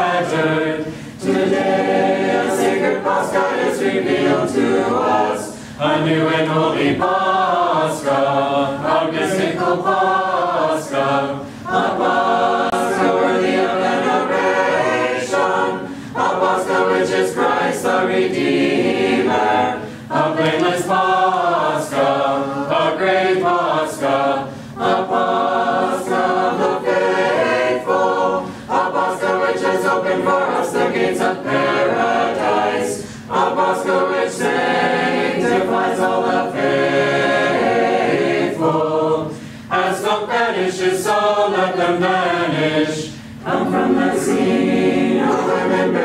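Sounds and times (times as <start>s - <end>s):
choir singing a cappella: 0.0s - 46.0s.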